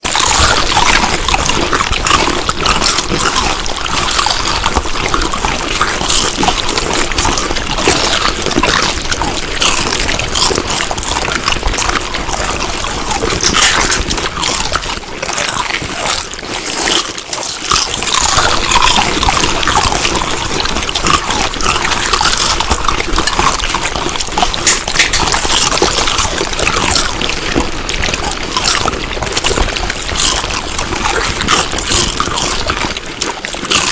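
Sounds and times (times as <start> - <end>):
person chewing food: 0.0 - 33.9.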